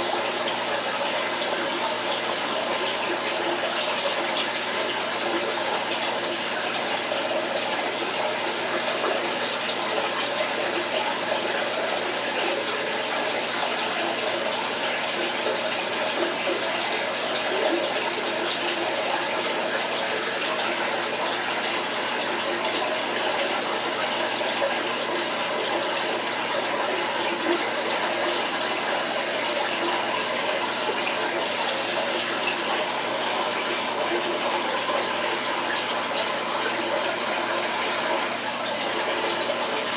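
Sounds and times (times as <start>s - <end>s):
aquarium water rushing: 0.0s - 39.9s.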